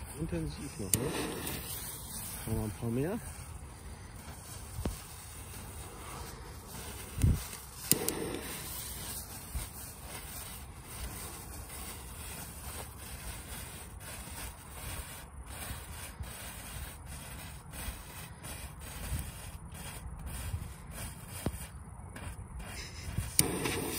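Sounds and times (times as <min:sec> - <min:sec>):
fireworks fizzing and crackling: 0:00.0 - 0:18.0, 0:19.0 - 0:23.9
sharp crack and hiss: 0:00.0 - 0:23.9.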